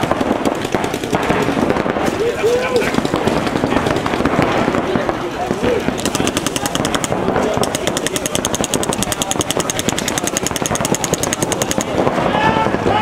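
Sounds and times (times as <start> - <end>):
paintball marker rapid firing: 0.0 - 12.3
scattered paintball shots: 0.0 - 12.5.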